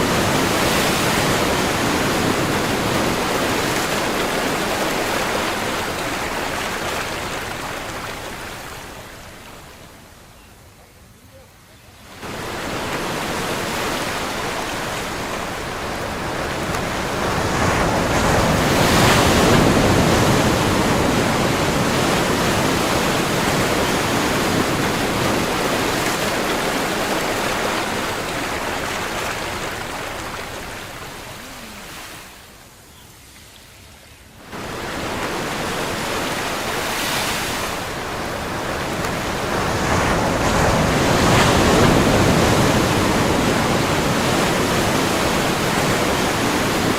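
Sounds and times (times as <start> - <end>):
ocean waves washing: 0.0 - 10.3, 12.0 - 46.9.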